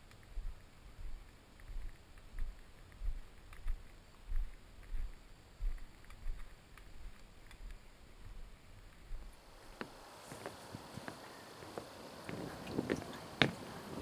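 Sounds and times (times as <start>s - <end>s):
footsteps on a trail: 0.1s - 14.0s.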